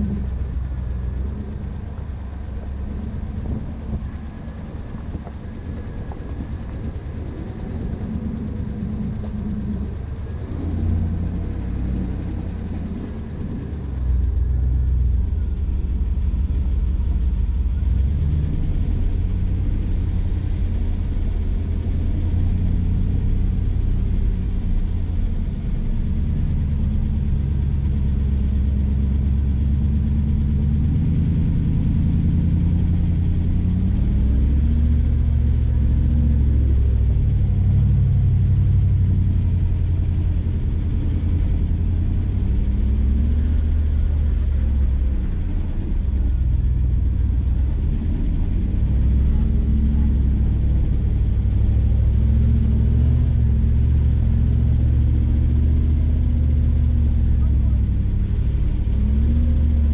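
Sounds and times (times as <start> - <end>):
vehicle engine rumbling: 0.0 - 59.9.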